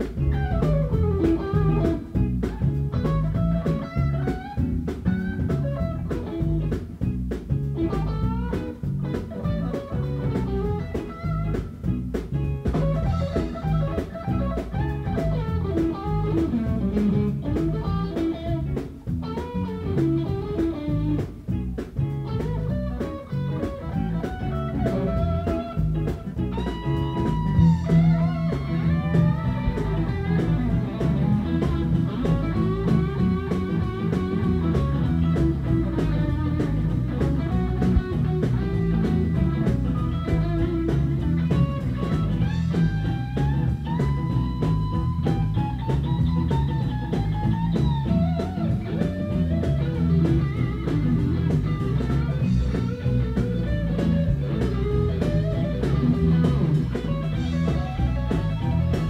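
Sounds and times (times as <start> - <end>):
bass guitar: 0.0 - 59.0
drums: 0.0 - 59.0
electric guitar lead with bends: 0.0 - 59.0
rhythm guitar: 0.0 - 59.0.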